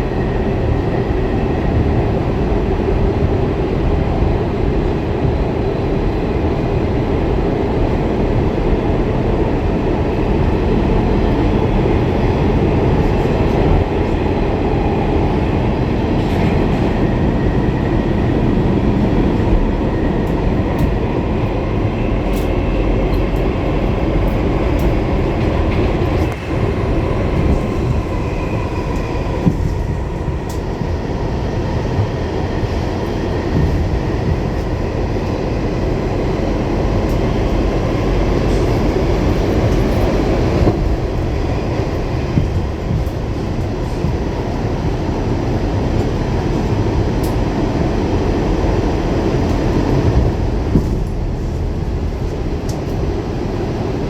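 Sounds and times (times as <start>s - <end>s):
subway wheels rumbling on rail: 0.0s - 54.0s.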